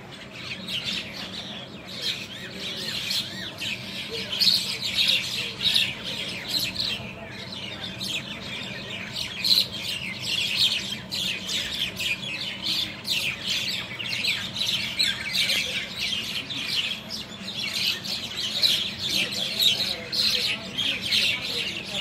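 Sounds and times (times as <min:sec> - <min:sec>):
birds squawking and chirping: 0:00.0 - 0:22.0.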